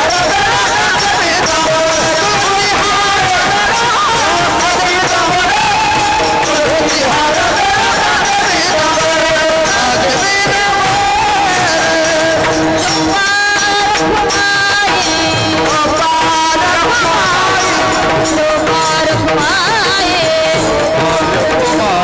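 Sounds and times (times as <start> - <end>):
jingling percussion beat: 0.0 - 22.0
person singing: 0.0 - 22.0.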